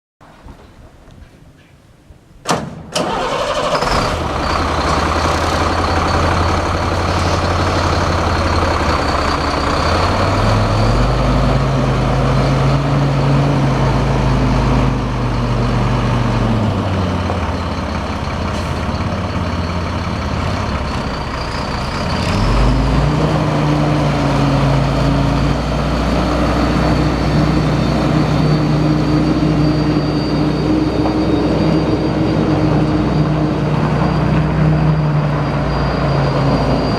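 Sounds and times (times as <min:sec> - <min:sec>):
diesel truck engine revving and idling: 0:03.0 - 0:36.9.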